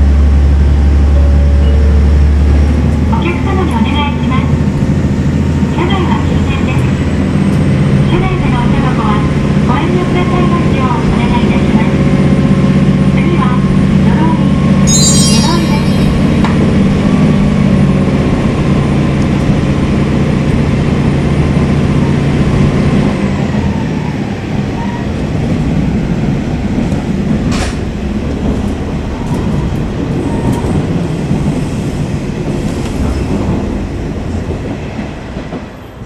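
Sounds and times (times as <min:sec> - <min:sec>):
train wheel and rail noise: 0:00.0 - 0:36.0.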